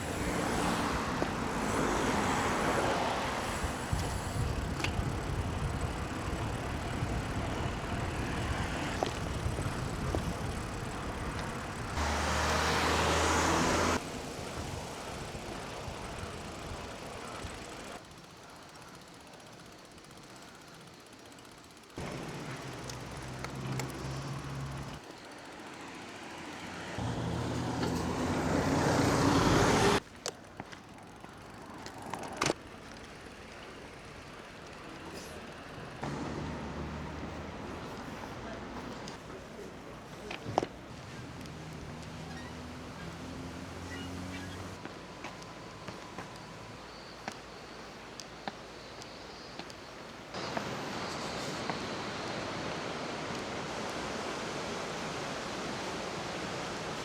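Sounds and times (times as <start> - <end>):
motor traffic passing: 0.0 - 57.0
road noise: 0.0 - 57.0.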